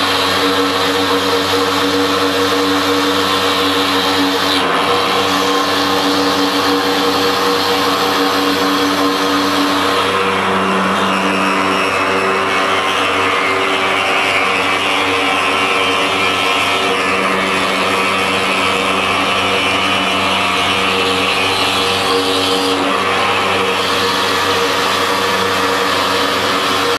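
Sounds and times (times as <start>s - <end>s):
machine cutting stone: 0.0s - 26.9s.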